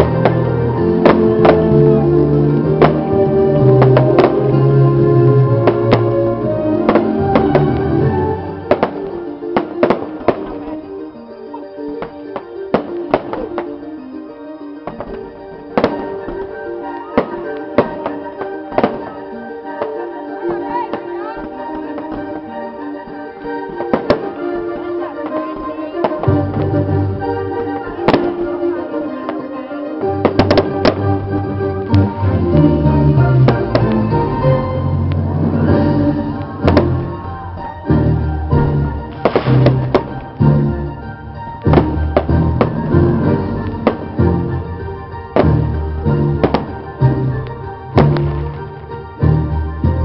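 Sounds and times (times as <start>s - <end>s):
fireworks bangs and cracks: 0.0s - 10.8s, 12.0s - 13.8s, 14.8s - 50.0s
music playing: 0.0s - 50.0s.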